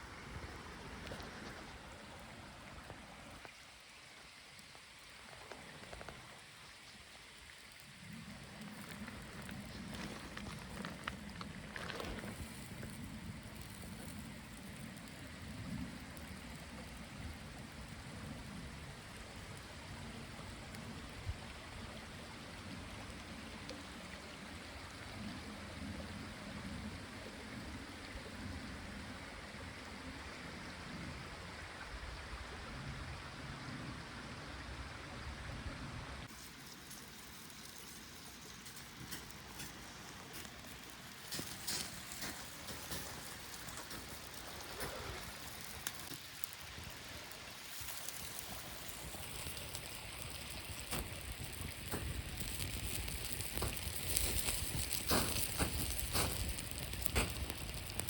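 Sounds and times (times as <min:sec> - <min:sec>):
steady water noise: 0:00.0 - 0:58.0.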